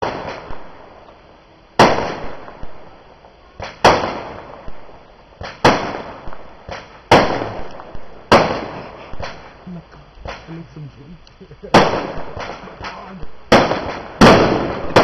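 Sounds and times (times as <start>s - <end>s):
loud firework bangs echoing: 0.0s - 9.6s, 10.2s - 10.8s, 11.6s - 15.0s
small firework pops and cracks: 0.0s - 9.6s, 11.3s - 15.0s.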